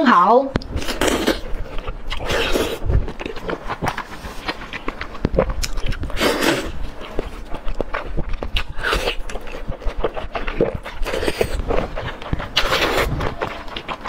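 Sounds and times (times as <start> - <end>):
mouth smacks and clicks: 0.5 - 14.0
wet biting and chewing: 0.6 - 14.0.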